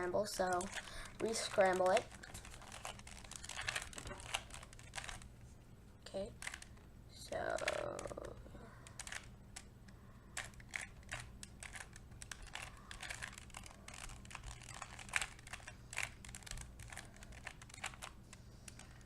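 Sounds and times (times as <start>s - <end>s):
plastic puzzle cube clicking: 0.4s - 5.2s, 6.3s - 6.7s, 7.5s - 9.3s, 10.4s - 19.0s.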